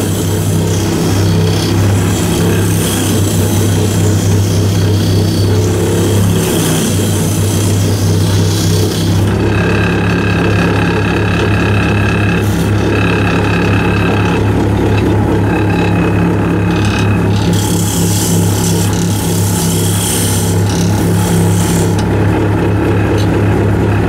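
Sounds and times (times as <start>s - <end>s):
chisel cutting wood: 0.0s - 24.0s
high whine: 0.0s - 24.0s
lathe motor hum: 0.0s - 24.0s.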